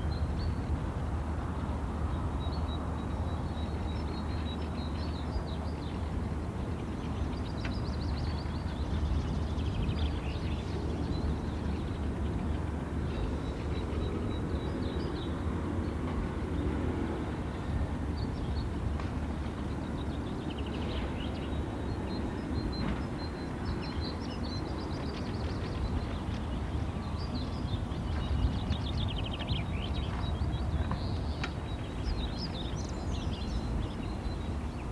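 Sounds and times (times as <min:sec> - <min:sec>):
wild birds chirping and trilling: 0:02.1 - 0:34.9.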